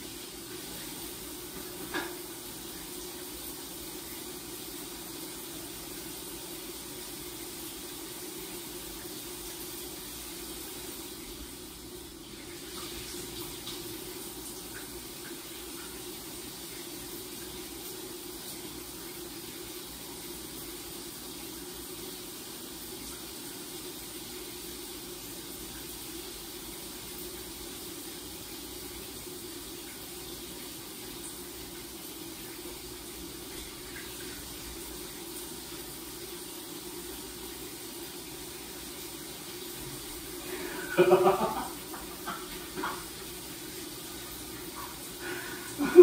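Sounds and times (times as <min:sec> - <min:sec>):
shower spraying water: 0:00.0 - 0:46.0.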